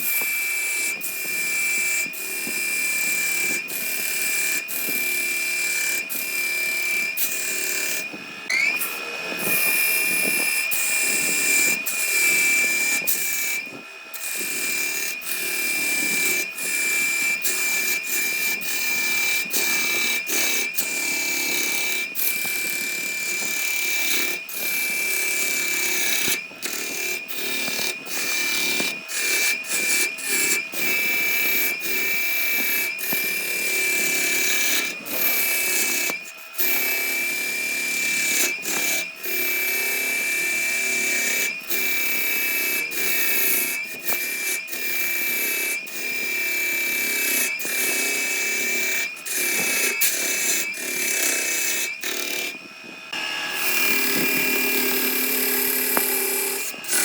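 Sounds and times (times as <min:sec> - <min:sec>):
power tool motor whine: 0:00.0 - 0:57.0.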